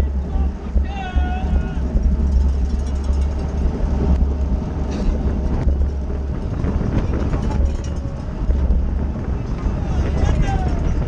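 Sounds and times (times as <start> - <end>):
wind buffeting microphone: 0.0 - 11.0
faint clicks and rattles: 0.6 - 11.0.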